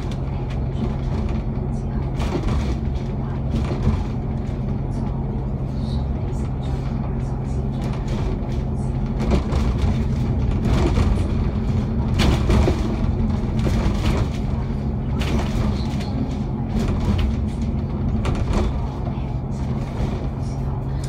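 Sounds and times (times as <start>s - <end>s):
bus engine drone: 0.0s - 21.0s
rattles and knocks: 0.0s - 21.0s
road noise: 0.0s - 21.0s.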